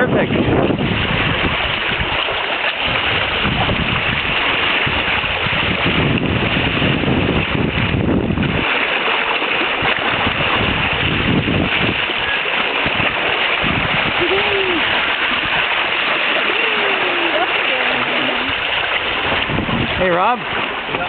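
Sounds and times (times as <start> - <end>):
water rushing along hulls: 0.0 - 21.0
wind buffeting microphone: 0.0 - 21.0.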